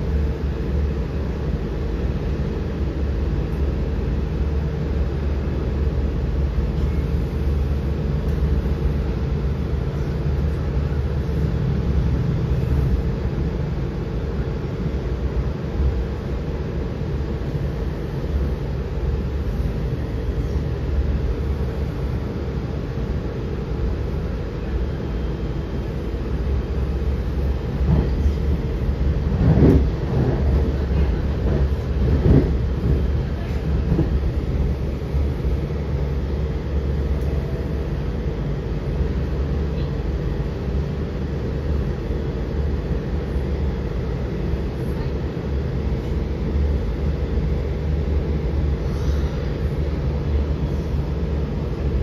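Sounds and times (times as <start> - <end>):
train rumble with motor hum: 0.0 - 52.0.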